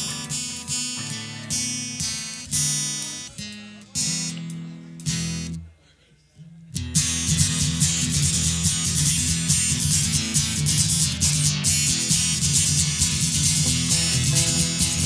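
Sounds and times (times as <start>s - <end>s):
acoustic guitar strumming: 0.0s - 5.7s, 6.6s - 15.0s.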